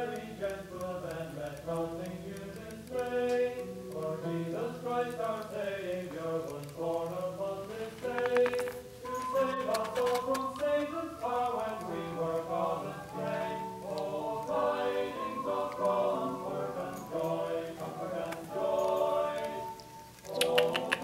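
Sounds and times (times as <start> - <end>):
choir singing long held notes: 2.8 - 8.4, 9.0 - 21.0.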